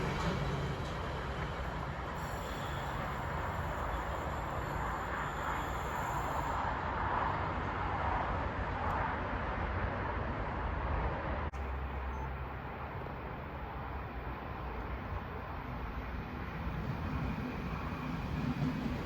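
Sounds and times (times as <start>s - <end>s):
train passing: 0.0s - 9.8s, 11.7s - 19.0s
outdoor background noise: 0.0s - 19.0s.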